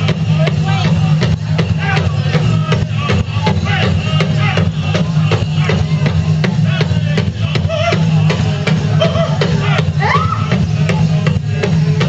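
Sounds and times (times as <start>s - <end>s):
big drum steady beat: 0.0s - 12.0s
high-pitched group singing: 1.8s - 12.0s.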